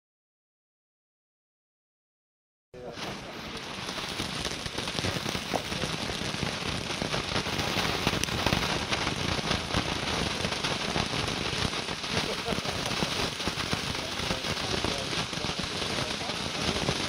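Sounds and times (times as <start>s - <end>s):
firework fountain hissing and crackling: 2.8s - 17.0s.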